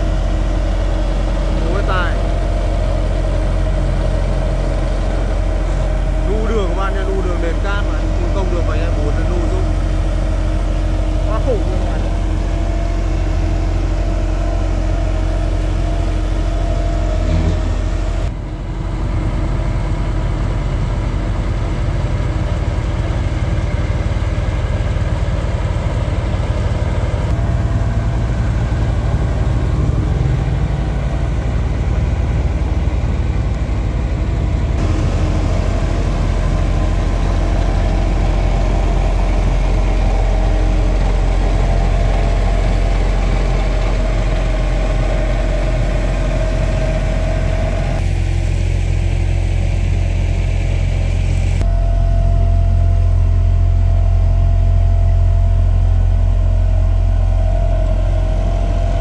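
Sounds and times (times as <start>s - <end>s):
heavy machine diesel engine drone: 0.0s - 59.0s.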